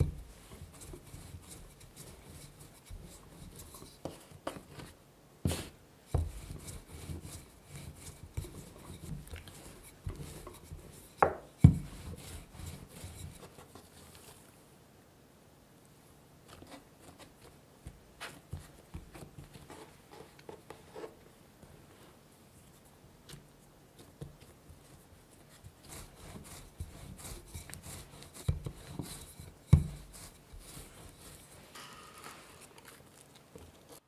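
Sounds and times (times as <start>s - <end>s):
dough flapping and patting: 0.0s - 14.6s, 16.4s - 32.8s.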